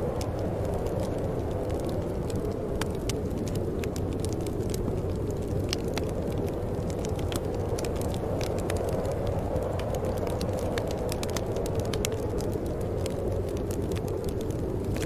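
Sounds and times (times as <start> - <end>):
wood fire burning: 0.0 - 15.0.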